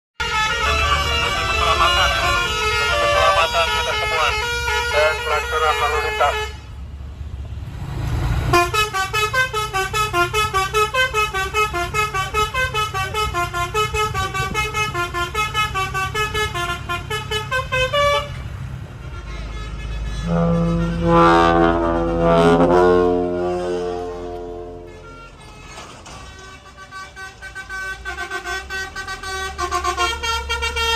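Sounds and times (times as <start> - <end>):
staccato air horn tune: 0.2 - 6.6, 8.5 - 18.4, 19.0 - 30.9
long trumpet horn blasts: 0.2 - 6.7, 8.5 - 25.8, 26.4 - 30.9
low engine rumble: 0.2 - 30.9.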